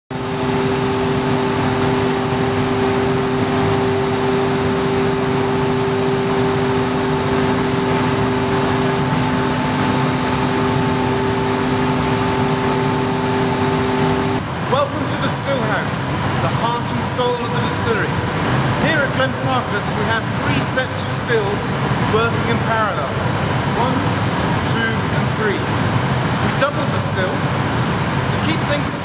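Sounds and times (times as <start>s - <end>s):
constant humming tones: 0.1s - 29.0s
plant machinery droning: 0.1s - 29.0s.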